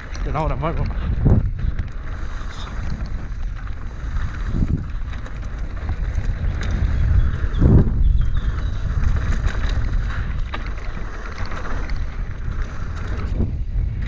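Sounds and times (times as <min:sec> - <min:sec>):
faint rattling clicks: 0:00.0 - 0:13.6
bike tyres rolling on dirt: 0:00.0 - 0:14.0
wind buffeting microphone: 0:00.0 - 0:14.0.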